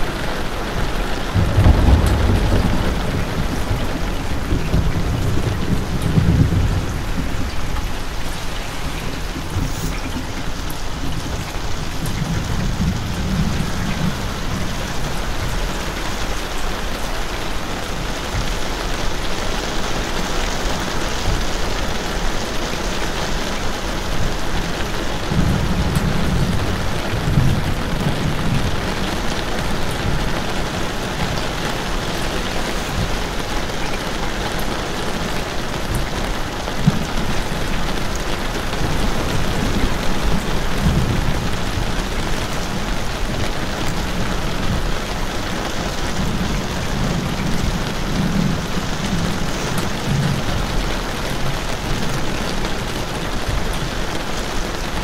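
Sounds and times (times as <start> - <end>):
rain falling hard: 0.0 - 55.0.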